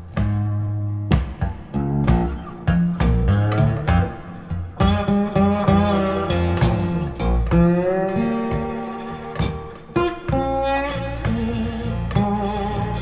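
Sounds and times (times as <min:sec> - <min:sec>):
plucked blues guitar lead: 0:00.0 - 0:13.0
walking bass line: 0:00.0 - 0:13.0.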